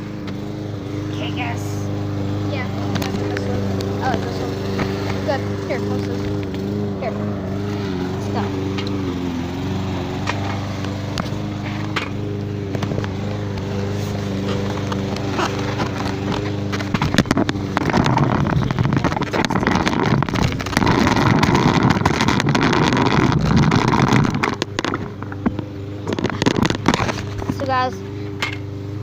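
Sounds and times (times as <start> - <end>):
lawn mower engine running: 0.0 - 29.0
small wheels rolling over pavement: 0.0 - 29.0.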